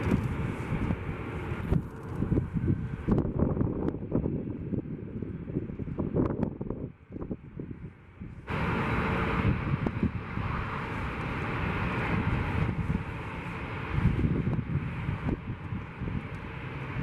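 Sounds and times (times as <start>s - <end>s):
jet engines roaring: 0.0s - 17.0s
low rumble: 0.0s - 17.0s
wind on microphone: 0.0s - 17.0s.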